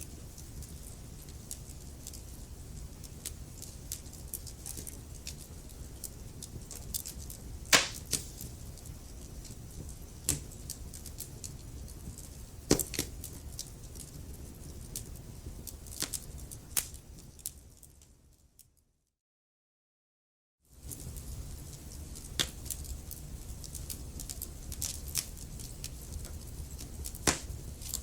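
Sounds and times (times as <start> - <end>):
wood fire crackling: 0.0 - 18.3, 20.7 - 28.0.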